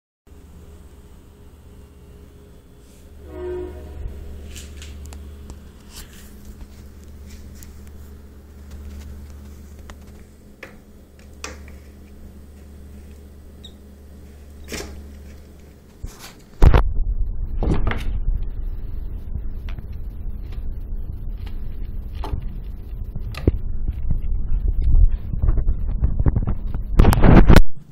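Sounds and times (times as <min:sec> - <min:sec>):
steady low hum: 0:00.3 - 0:27.9.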